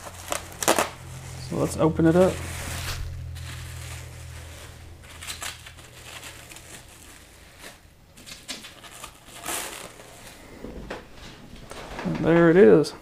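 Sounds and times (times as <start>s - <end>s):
bubble wrap rustling: 0.0s - 11.9s.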